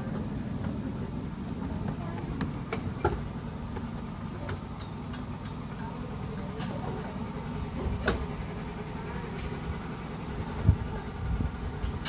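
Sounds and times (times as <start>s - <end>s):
miniature train rumbling: 0.0s - 12.0s.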